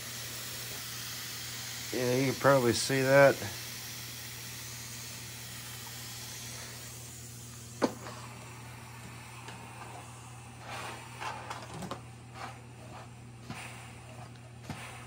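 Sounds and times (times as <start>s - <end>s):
steam mop hissing and humming: 0.0s - 15.0s.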